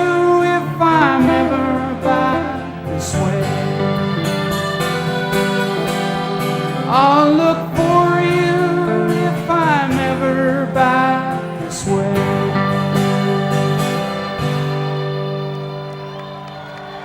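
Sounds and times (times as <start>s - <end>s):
strummed guitar: 0.0s - 17.0s.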